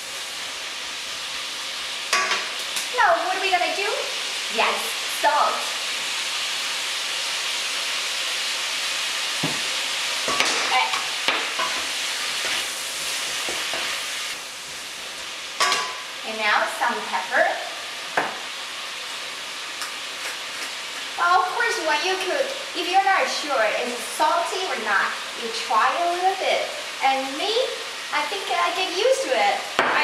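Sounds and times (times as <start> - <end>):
food sizzling in a wok: 0.0 - 30.0.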